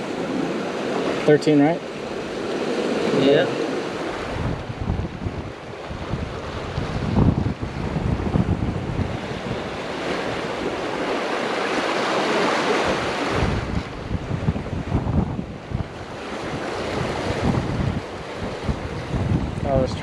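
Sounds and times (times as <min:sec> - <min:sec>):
ocean surf washing ashore: 0:00.0 - 0:20.0
wind buffeting microphone: 0:00.0 - 0:20.0.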